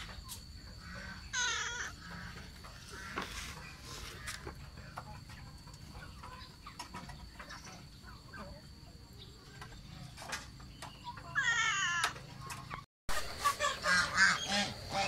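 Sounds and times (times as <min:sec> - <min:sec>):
poultry clucking: 0:00.0 - 0:15.0.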